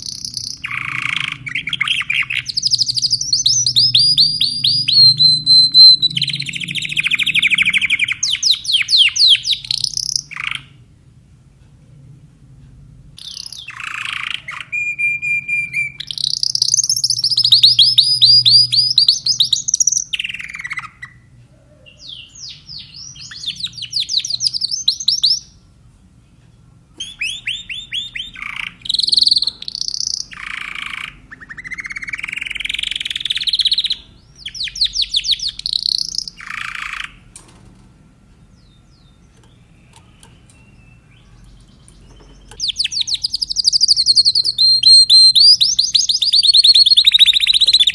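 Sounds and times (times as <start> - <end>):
canary singing trills: 0.0 - 10.9, 13.2 - 37.4, 38.4 - 47.9.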